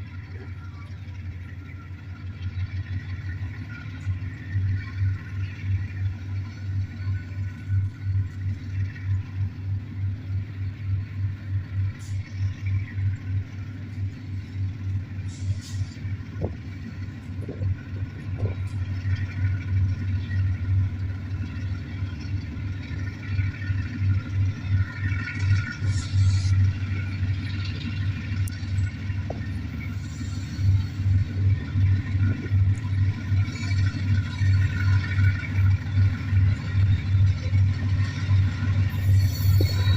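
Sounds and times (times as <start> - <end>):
large engine rumbling: 0.0 - 39.9.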